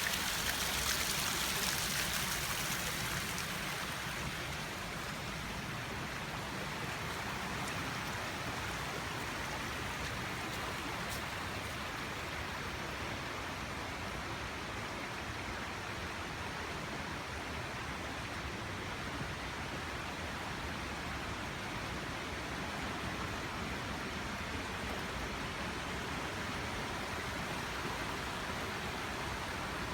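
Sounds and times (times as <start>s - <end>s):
rushing water roar: 0.0s - 29.9s.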